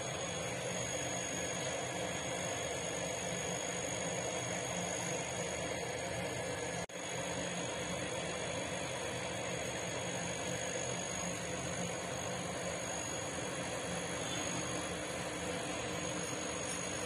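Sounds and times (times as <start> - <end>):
motor humming with faint hiss: 0.0 - 17.0.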